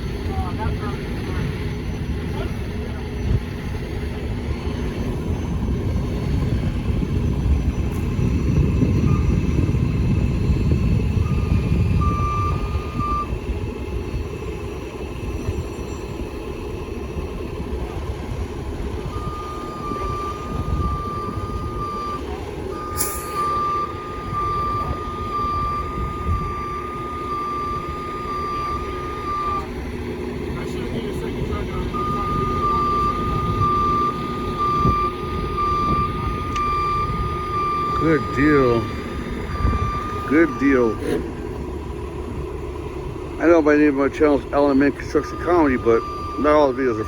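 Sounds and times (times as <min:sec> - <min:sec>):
diesel truck engines running: 0:00.0 - 0:47.0
truck reversing alarm beeping: 0:00.0 - 0:47.0.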